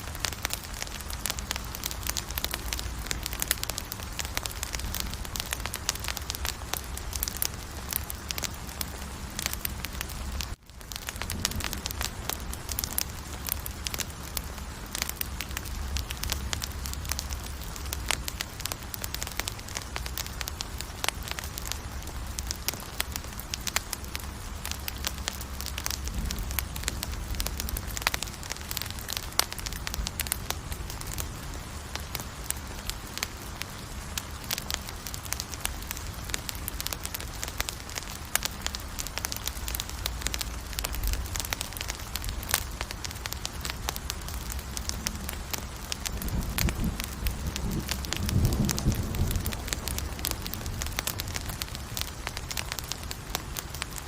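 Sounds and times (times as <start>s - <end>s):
low rumble of flame: 0.0s - 54.0s
wood crackling and popping: 0.0s - 54.0s.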